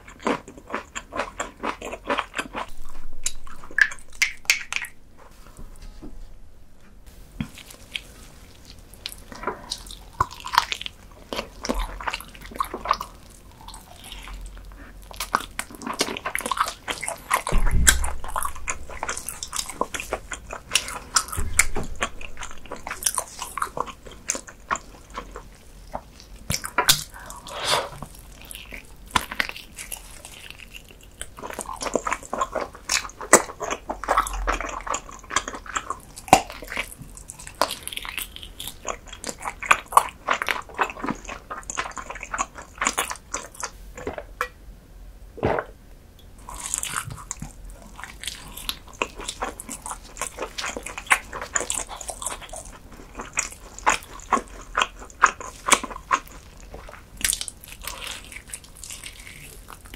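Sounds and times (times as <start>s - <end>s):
person chewing sticky food: 0.0s - 5.6s, 7.3s - 44.5s, 46.2s - 59.9s.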